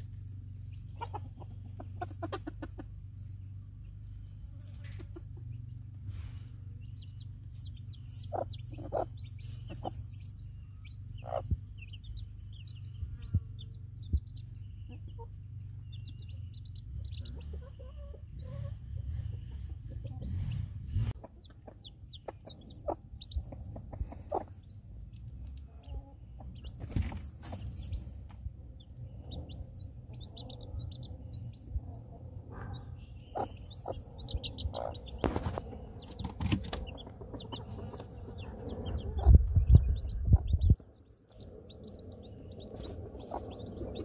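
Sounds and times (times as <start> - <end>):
hens clucking: 0.0 - 3.6, 4.2 - 6.1, 7.0 - 12.8, 14.0 - 44.0
chicks peeping: 0.0 - 44.0
low rumble: 0.0 - 44.0.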